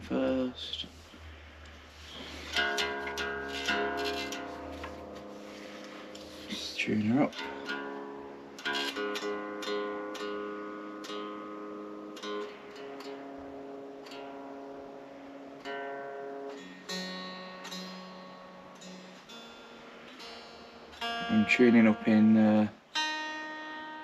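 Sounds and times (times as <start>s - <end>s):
electric guitar strings plucked: 2.0s - 24.0s.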